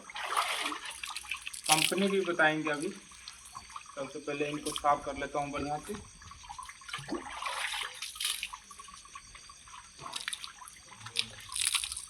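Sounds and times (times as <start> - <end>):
water splashing over tyre: 0.0 - 12.0.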